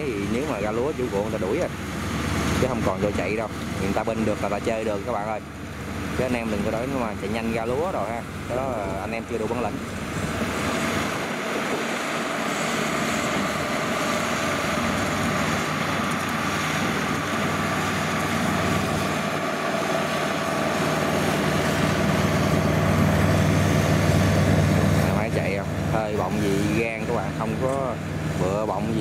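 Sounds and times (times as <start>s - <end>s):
combine harvester engine drone: 0.0s - 29.0s
steady machine whine: 0.0s - 29.0s.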